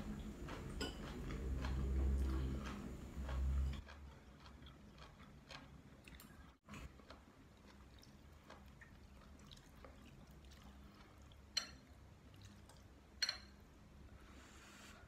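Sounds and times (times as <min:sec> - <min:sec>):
person chewing noodles: 0:00.0 - 0:13.0.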